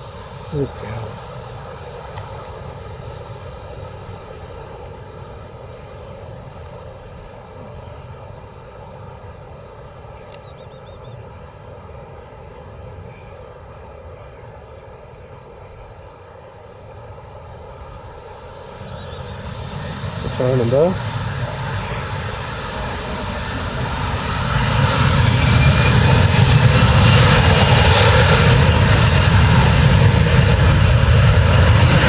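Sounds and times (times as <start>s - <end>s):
jet engines rumbling at low power: 0.0s - 32.0s.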